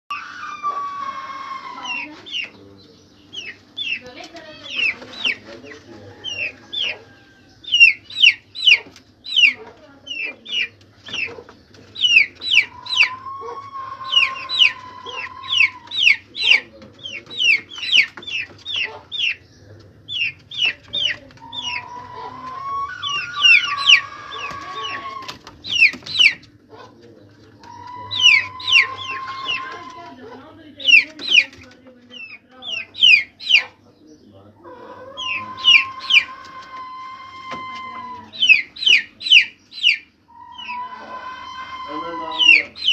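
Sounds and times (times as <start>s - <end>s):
chickens long drawn-out calls: 0.1s - 31.5s, 34.5s - 42.9s
chickens chirping: 0.1s - 42.9s.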